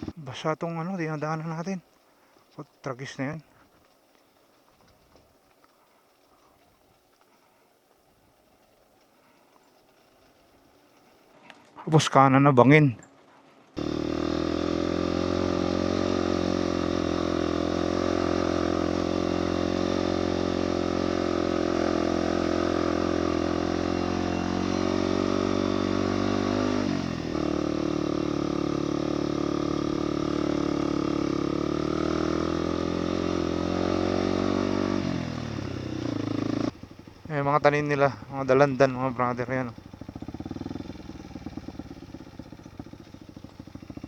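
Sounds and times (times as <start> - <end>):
motorcycle engine climbing: 0.0 - 11.7, 12.9 - 44.0.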